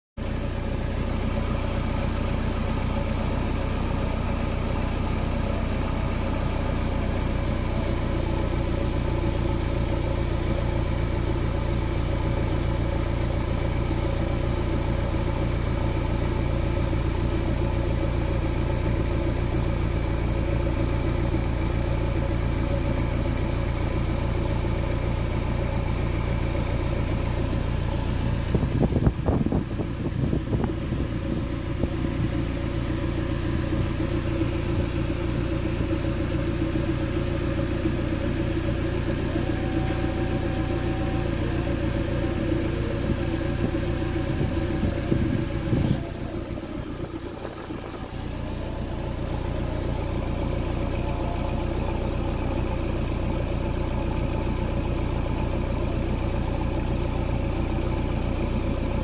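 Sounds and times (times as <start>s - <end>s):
car engine idling: 0.2s - 59.0s.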